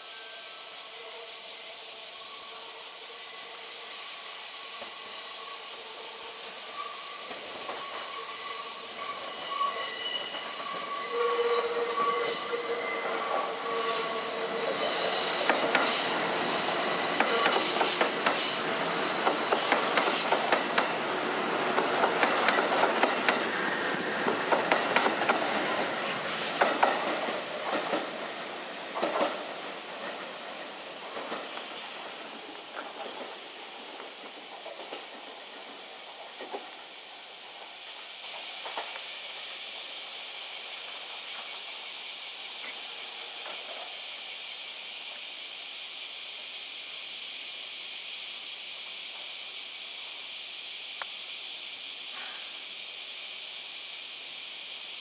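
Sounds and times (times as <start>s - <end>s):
train wheels squealing: 0.0s - 55.0s.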